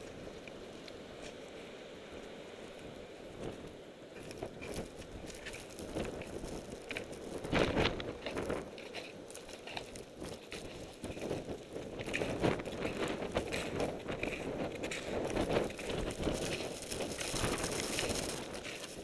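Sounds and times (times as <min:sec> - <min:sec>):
footsteps crunching through snow: 0:03.4 - 0:19.0.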